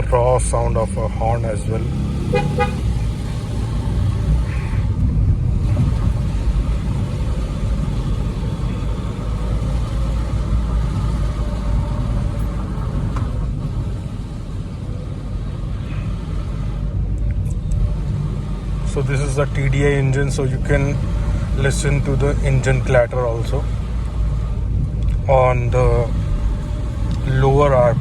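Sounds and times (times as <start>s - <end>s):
diesel engine running: 0.0s - 28.0s
tyre noise on wet road: 0.0s - 28.0s.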